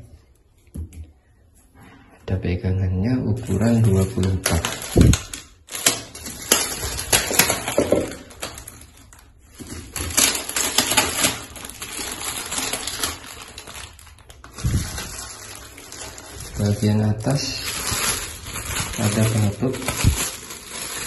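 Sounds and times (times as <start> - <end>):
plastic wrap crinkling: 3.2 - 21.0.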